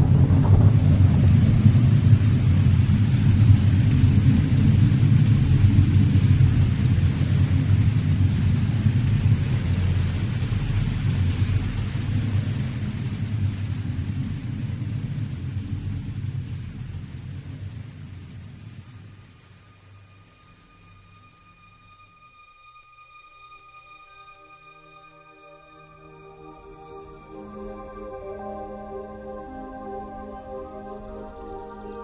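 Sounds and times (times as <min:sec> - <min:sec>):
deep rumbling with hiss: 0:00.0 - 0:32.0.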